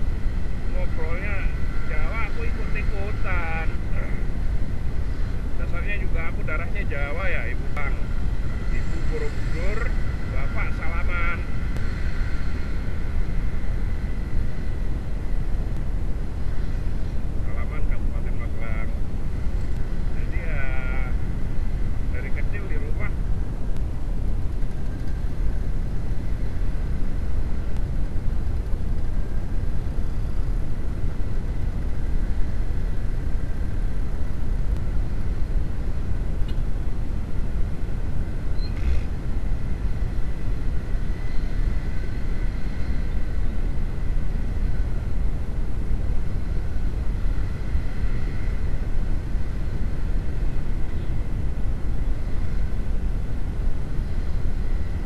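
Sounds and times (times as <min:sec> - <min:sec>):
motorcycle engine rumble: 0:00.0 - 0:55.0
wind buffeting microphone: 0:00.0 - 0:55.0.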